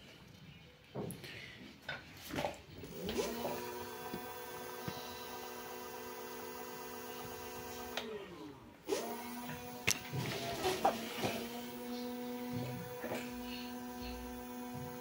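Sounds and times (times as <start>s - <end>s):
electric scooter motor whine: 2.8s - 15.0s.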